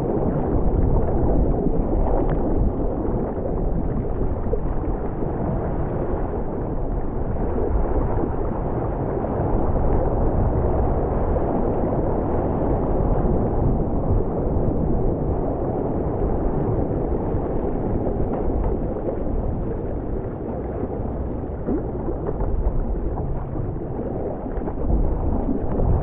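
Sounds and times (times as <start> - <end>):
sea water rushing: 0.0 - 26.0
wind buffeting microphone: 0.0 - 26.0.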